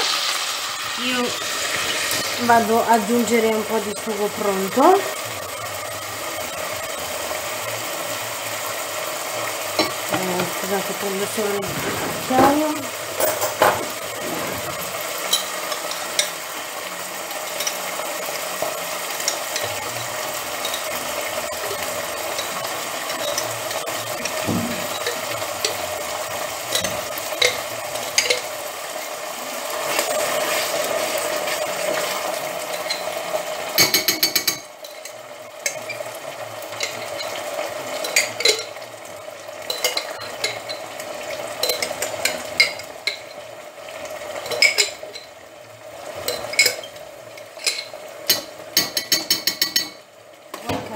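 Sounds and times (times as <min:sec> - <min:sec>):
sauce sizzling in a pot: 0:00.0 - 0:50.9.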